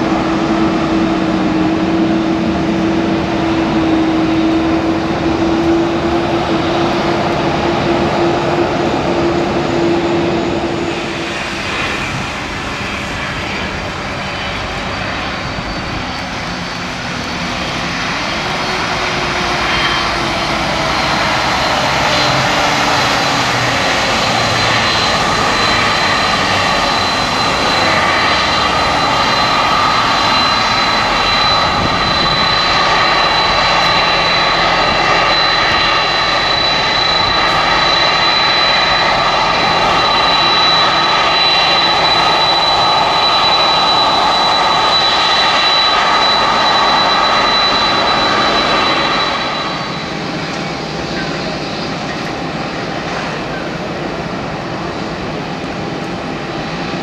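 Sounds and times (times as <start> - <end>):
jet engines whining at idle: 0.0 - 57.0.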